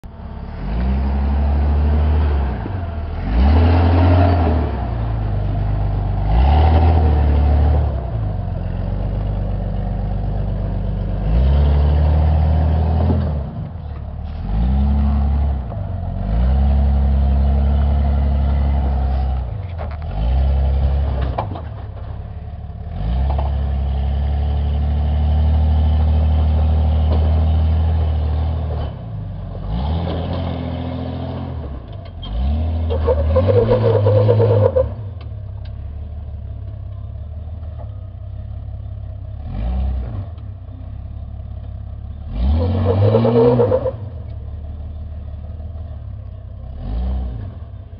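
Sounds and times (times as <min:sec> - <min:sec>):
engine revving under load: 0:00.3 - 0:22.0, 0:22.8 - 0:35.3, 0:39.4 - 0:40.6, 0:42.2 - 0:44.4, 0:46.6 - 0:47.9.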